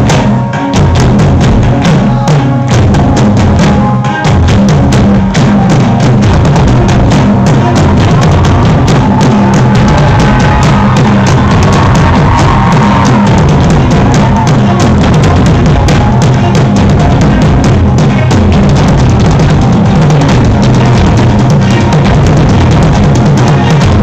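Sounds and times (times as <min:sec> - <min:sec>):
bass drum thumps: 0:00.0 - 0:24.0
live rock band playing: 0:00.0 - 0:24.0.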